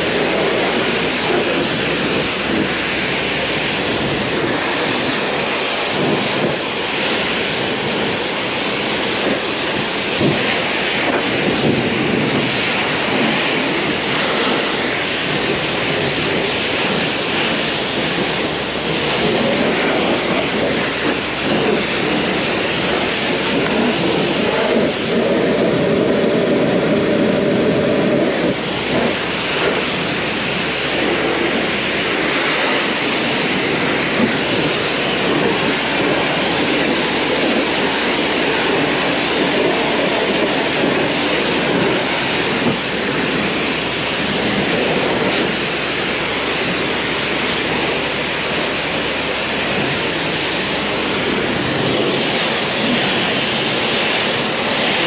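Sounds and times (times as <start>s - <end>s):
pressure washer spraying water: 0.0s - 55.0s.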